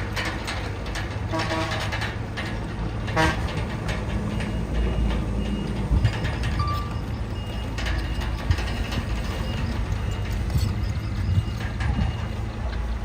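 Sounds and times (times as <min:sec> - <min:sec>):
bulldozer diesel engine running: 0:00.0 - 0:13.0
track squeaks and metallic clanks: 0:00.0 - 0:13.0.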